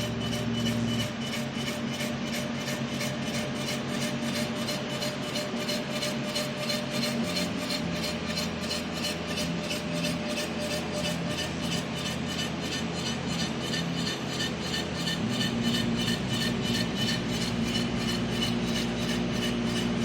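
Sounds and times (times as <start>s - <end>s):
printer mechanical hum and whir: 0.0s - 20.0s.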